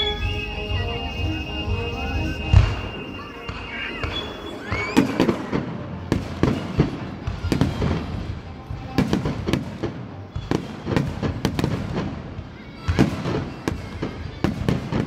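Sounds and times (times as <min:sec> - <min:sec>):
fireworks bangs and pops: 0:02.4 - 0:15.0.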